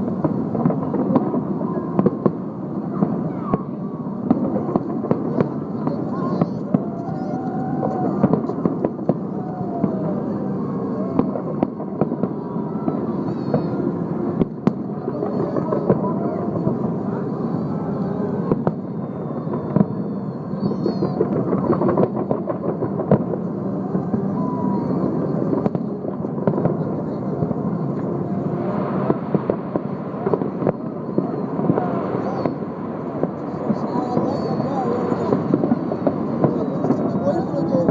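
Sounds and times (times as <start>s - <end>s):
crowd voices: 0.0s - 37.9s
fireworks bangs: 0.0s - 37.9s
fireworks rumble: 0.0s - 37.9s.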